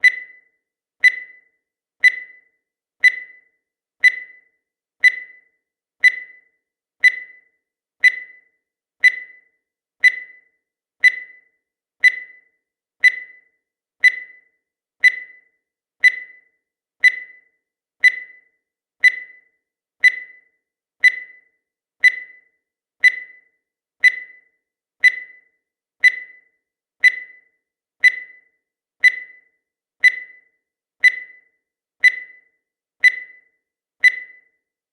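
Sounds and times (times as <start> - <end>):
short electronic beeps: 0.0 - 34.6.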